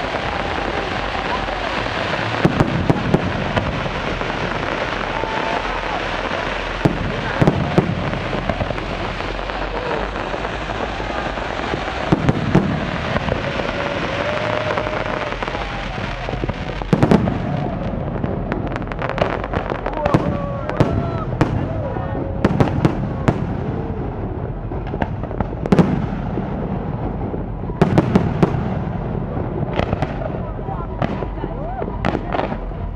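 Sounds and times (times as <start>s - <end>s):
sharp firework bangs: 0.0s - 32.8s
fireworks din: 0.0s - 32.9s.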